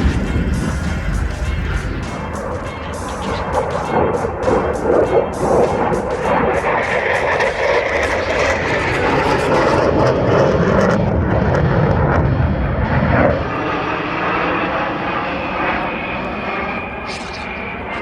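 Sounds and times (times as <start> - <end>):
jet flying past: 0.0 - 18.0.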